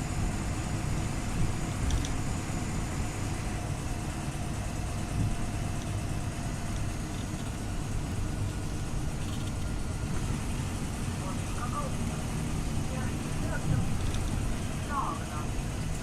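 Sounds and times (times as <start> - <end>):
bus engine and road rumble: 0.0 - 16.0
faint steady whine: 0.0 - 16.0.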